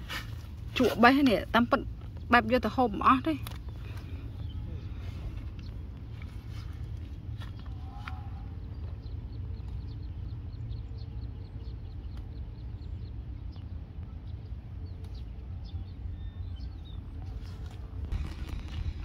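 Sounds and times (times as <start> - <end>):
steady low rumble: 0.0 - 19.0
bird chirping: 2.0 - 19.0.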